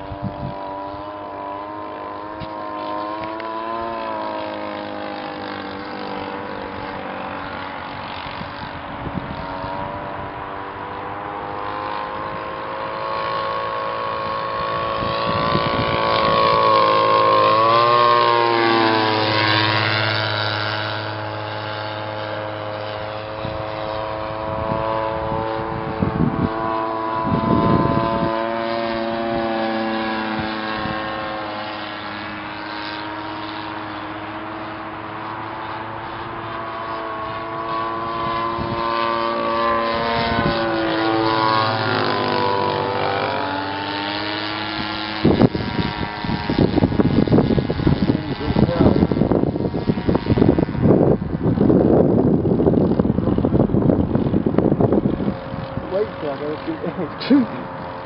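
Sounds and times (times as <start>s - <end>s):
model airplane engine: 0.0s - 58.0s.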